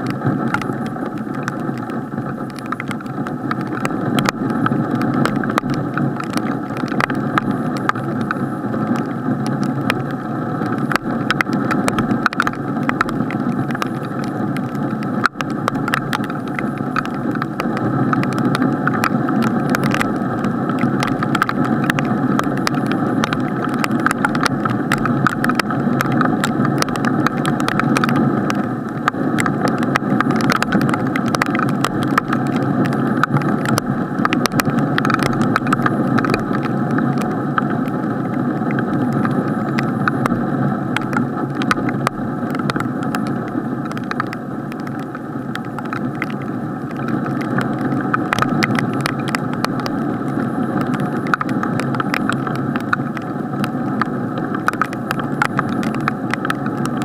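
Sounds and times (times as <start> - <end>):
rain on camera housing: 0.0 - 57.0
raindrops ticking on case: 0.0 - 57.0.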